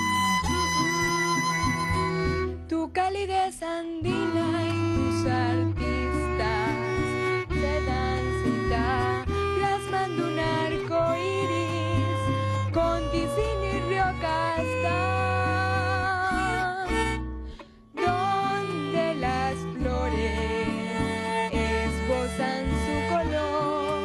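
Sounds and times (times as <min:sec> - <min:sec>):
cello: 0:00.0 - 0:24.0
classical guitar: 0:00.0 - 0:24.0
double bass: 0:00.0 - 0:24.0
violin melody with vibrato: 0:00.0 - 0:24.0.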